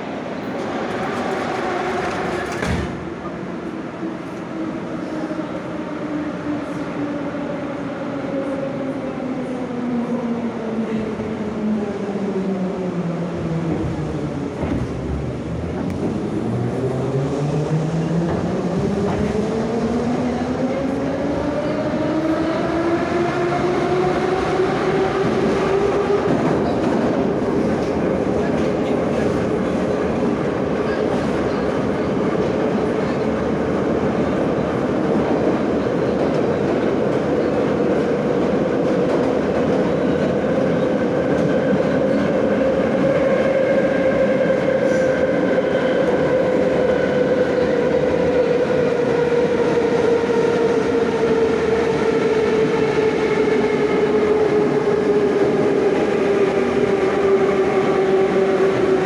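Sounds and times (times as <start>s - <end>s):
subway train running rumble: 0.0s - 59.0s.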